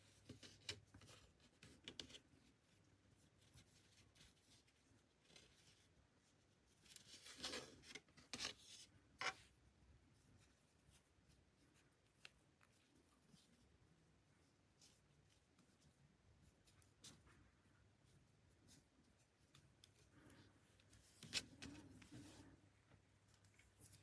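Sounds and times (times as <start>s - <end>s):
cord rustling and rubbing: 0.0s - 24.0s.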